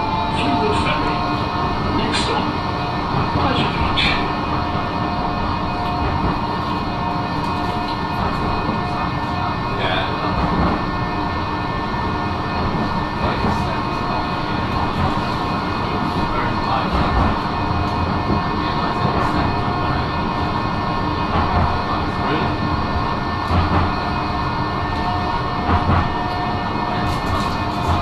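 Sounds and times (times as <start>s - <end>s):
electric tram running rumble: 0.0s - 28.0s.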